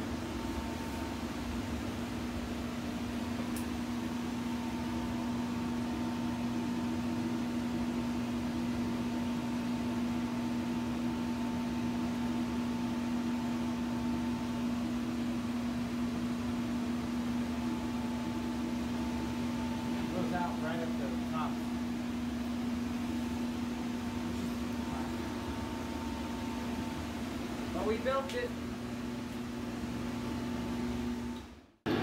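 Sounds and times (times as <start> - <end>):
blower hum: 0.0 - 32.0.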